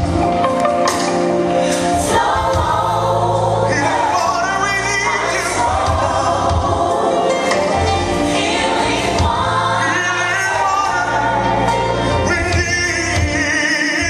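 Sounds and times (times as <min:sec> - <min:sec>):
band playing gospel music: 0:00.0 - 0:14.0
group of voices singing: 0:01.5 - 0:14.0
steady bass: 0:02.0 - 0:13.6.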